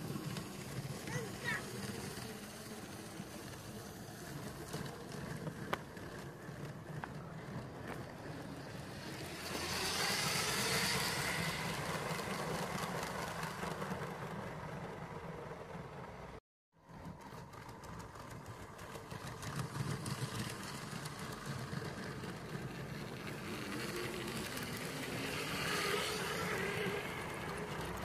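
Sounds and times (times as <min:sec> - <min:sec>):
toy train motor hum: 0:00.0 - 0:14.4, 0:17.4 - 0:28.0.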